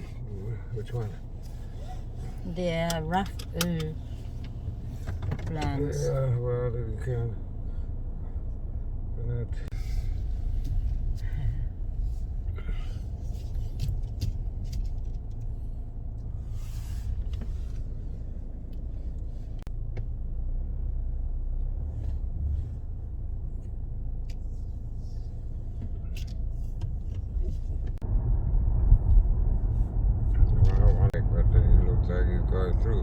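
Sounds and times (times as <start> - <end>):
car driving rumble from inside: 0.0 - 33.0.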